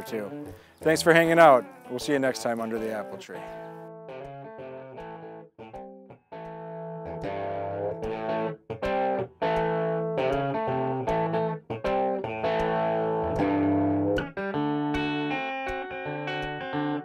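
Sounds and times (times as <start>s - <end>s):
plucked guitar-like chords: 0.0s - 17.0s.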